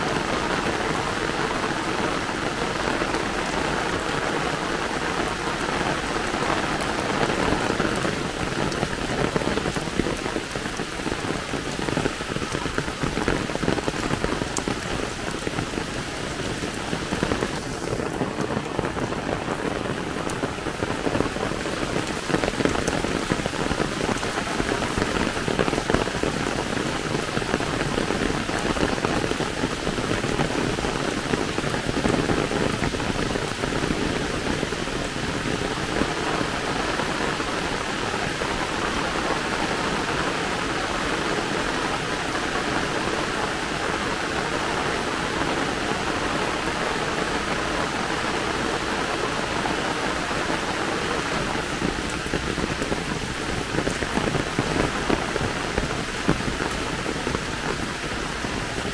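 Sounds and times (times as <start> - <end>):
heavy rain pattering: 0.0 - 58.9.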